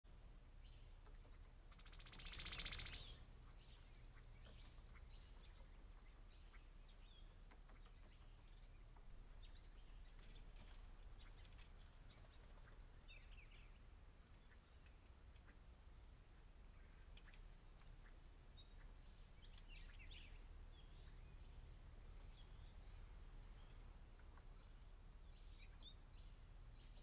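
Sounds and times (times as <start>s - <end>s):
birds chirping: 0.6s - 27.0s.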